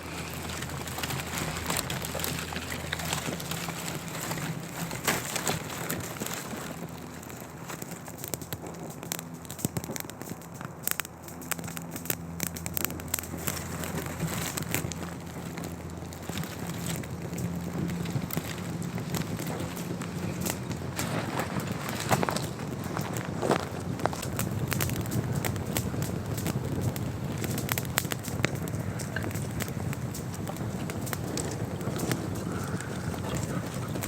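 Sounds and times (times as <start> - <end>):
campfire crackling and popping: 0.0 - 34.0
steady low hum: 0.0 - 34.0.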